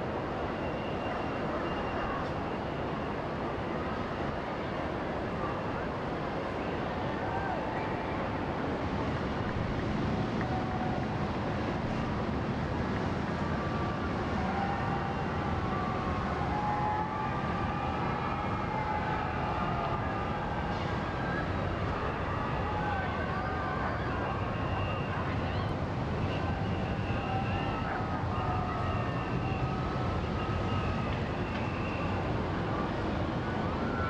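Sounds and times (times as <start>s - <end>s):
faint police sirens wailing: 0.0s - 34.0s
steady rushing noise: 2.3s - 34.0s.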